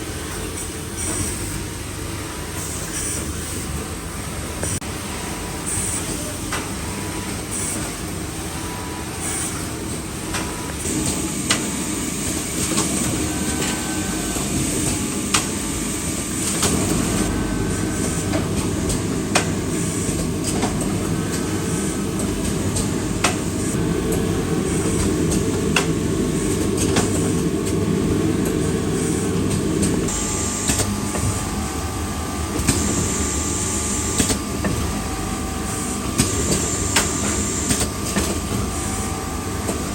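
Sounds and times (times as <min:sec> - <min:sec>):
factory machinery din: 0:02.5 - 0:39.9.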